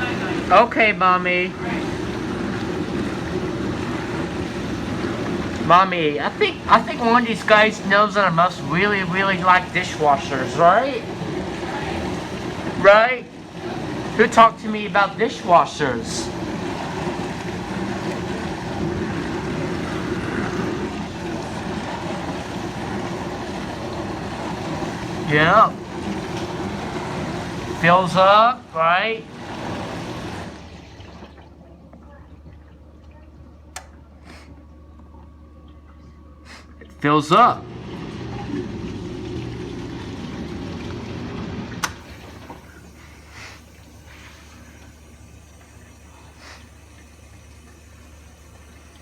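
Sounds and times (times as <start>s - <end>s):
dishwasher low hum: 0.0s - 49.0s
dishwasher water rushing: 0.0s - 49.0s.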